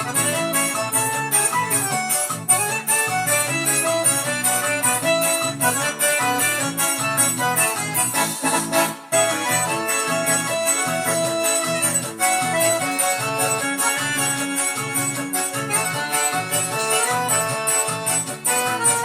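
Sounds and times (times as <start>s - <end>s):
electronic keyboard instrumental: 0.0s - 19.0s.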